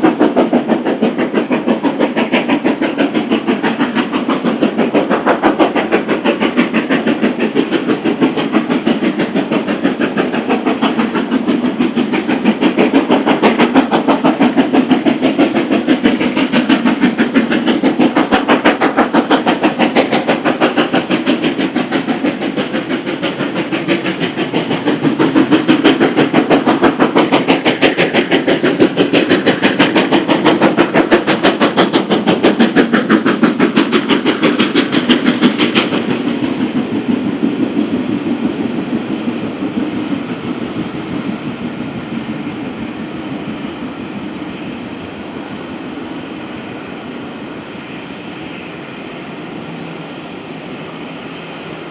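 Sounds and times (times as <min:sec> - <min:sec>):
steam locomotive exhaust beat: 0:00.0 - 0:51.9.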